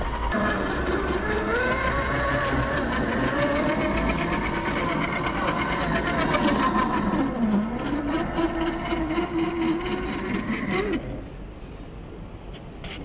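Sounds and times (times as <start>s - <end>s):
electric motor whining: 0.0s - 11.2s.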